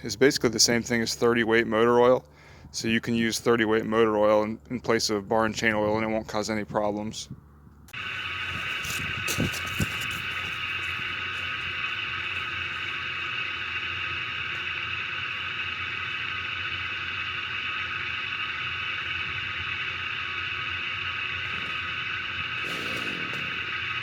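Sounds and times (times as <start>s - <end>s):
mechanical hum with high whine: 0.0s - 24.0s.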